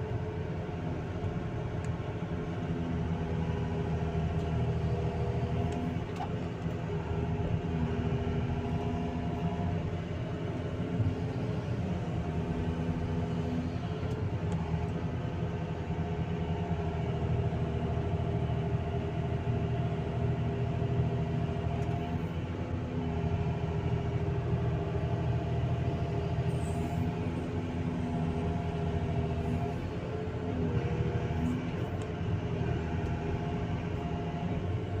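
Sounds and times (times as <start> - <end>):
excavator diesel engine: 0.0 - 35.0.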